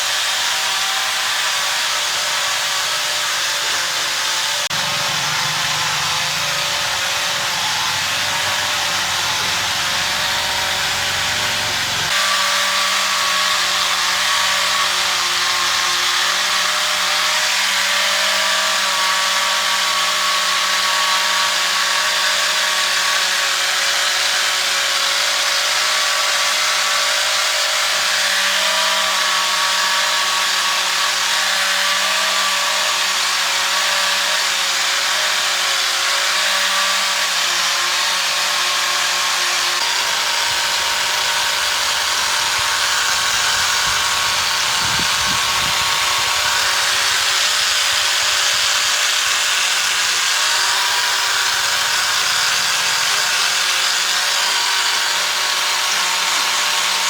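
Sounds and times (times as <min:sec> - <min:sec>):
power tool running: 0:00.0 - 0:57.0.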